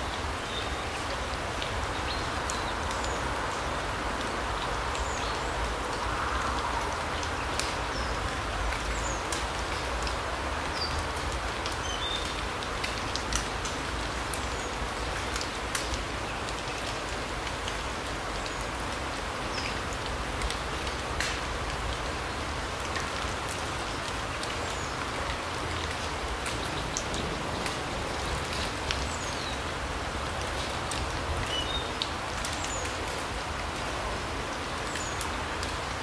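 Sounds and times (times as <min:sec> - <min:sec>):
steady forest noise: 0:00.0 - 0:36.0.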